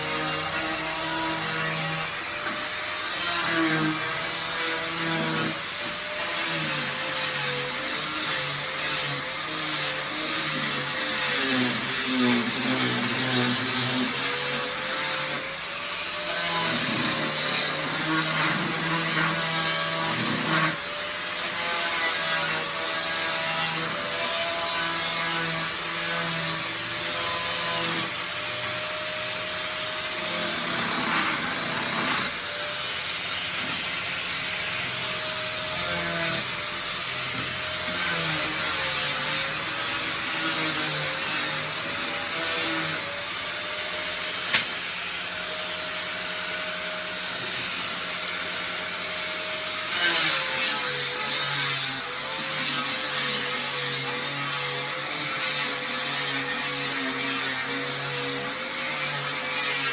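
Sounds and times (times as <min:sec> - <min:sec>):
power saw cutting: 0:00.0 - 0:59.9.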